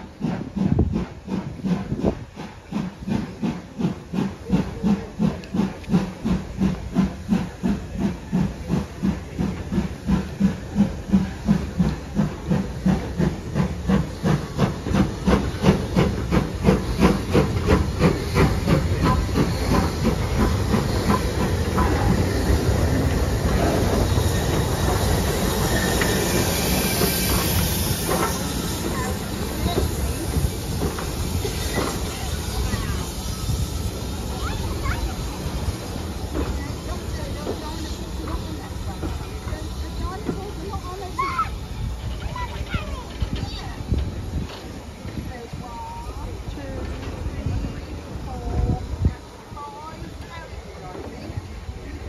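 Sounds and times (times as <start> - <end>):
steam hissing: 0.0 - 52.0
steam locomotive beats: 0.0 - 52.0.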